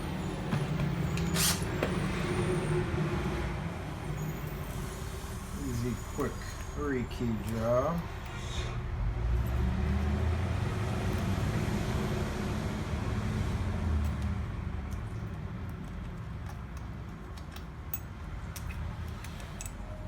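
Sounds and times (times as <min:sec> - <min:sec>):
passing motor vehicle rumble: 0:00.0 - 0:17.3.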